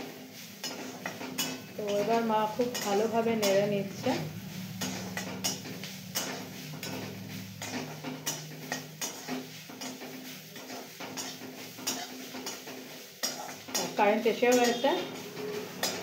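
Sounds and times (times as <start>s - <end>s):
metal spatula scraping a pan: 0.0s - 16.0s.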